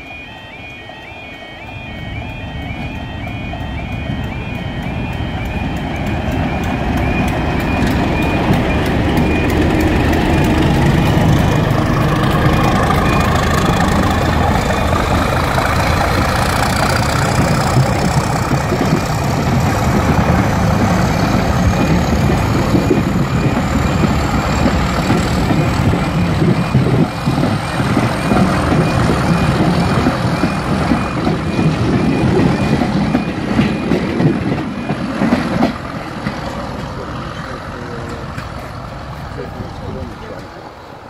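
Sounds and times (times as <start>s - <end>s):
level crossing alarm: 0.0s - 36.3s
diesel locomotive engine running: 0.0s - 41.0s
train coaches rumbling on rails: 0.0s - 41.0s.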